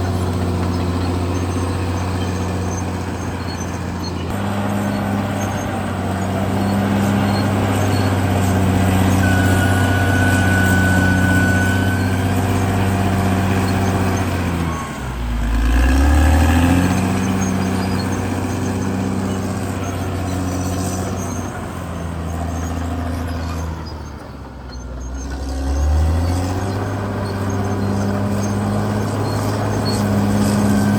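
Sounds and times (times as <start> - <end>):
bulldozer diesel engine working: 0.0 - 30.9
thin high squeal: 0.6 - 15.0, 16.2 - 30.9.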